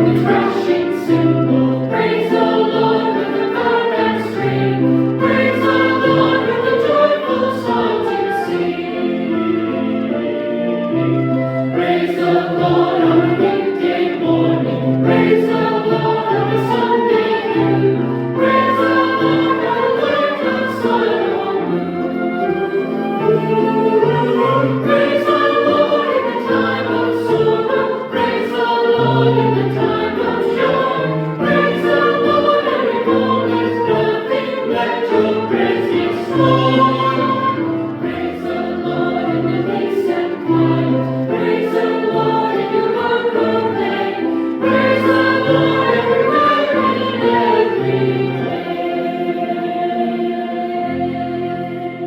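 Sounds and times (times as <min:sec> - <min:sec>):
church choir singing: 0:00.0 - 0:52.0
piano accompaniment: 0:00.0 - 0:52.0.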